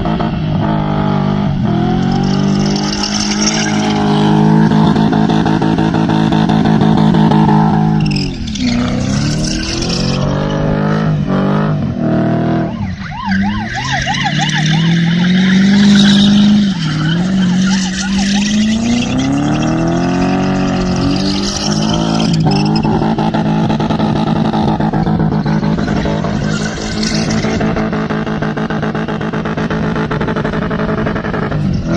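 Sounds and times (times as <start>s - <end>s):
car engine revving: 0.0s - 31.9s
high warbling squeal: 0.6s - 29.2s.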